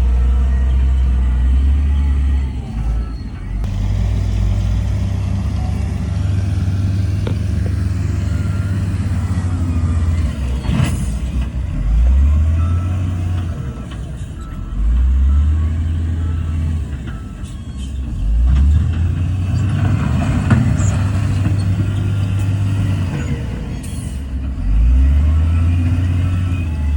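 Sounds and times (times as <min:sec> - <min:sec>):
heavy diesel engine revving: 0:00.0 - 0:26.9.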